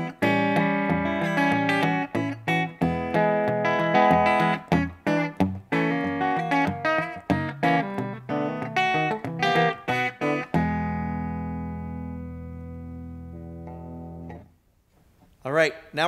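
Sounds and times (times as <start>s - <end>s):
clean electric guitar: 0.0s - 14.6s.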